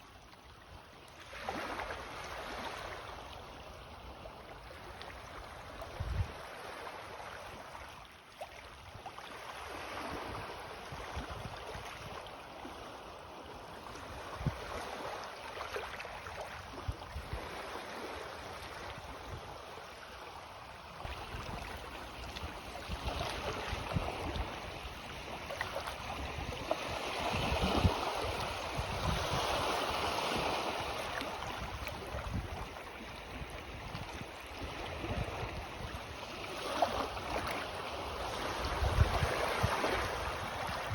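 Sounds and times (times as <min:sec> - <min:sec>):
small sea waves lapping: 0:00.0 - 0:40.9.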